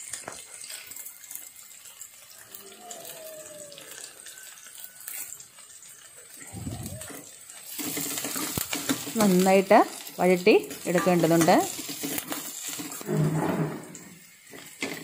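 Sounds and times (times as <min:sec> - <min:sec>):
shallots sizzling in oil: 0:00.0 - 0:15.0.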